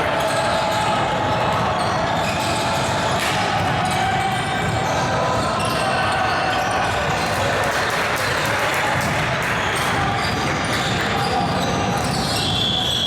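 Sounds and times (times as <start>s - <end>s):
voices echoing in a hall: 0.0s - 13.0s.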